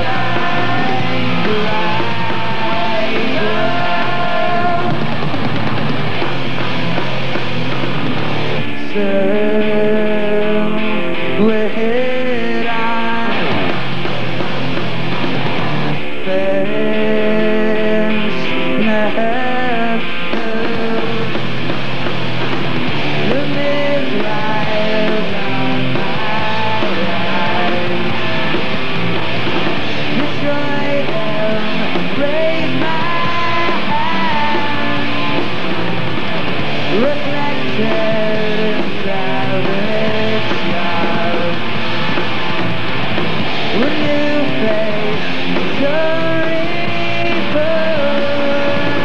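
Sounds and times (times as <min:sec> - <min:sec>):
bass guitar: 0:00.0 - 0:49.0
drums: 0:00.0 - 0:49.0
electric guitars: 0:00.0 - 0:49.0.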